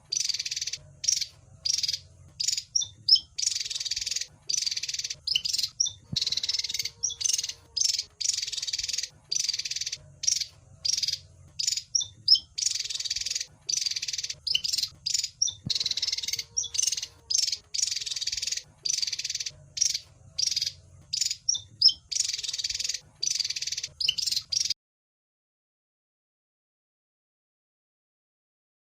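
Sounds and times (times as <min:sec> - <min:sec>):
bird harsh rasping chatter: 0:00.0 - 0:24.8.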